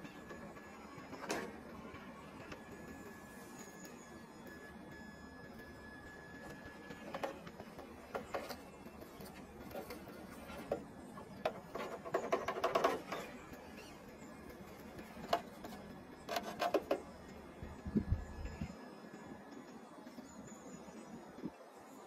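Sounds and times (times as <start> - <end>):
whirring drivetrain gears: 0.0 - 18.7.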